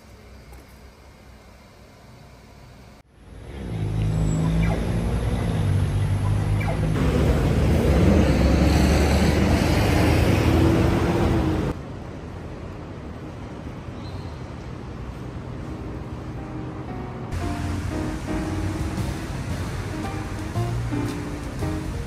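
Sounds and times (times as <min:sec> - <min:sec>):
heavy vehicle engine humming: 0:00.0 - 0:13.3, 0:14.8 - 0:22.0
traffic noise with low rumble: 0:00.0 - 0:22.0.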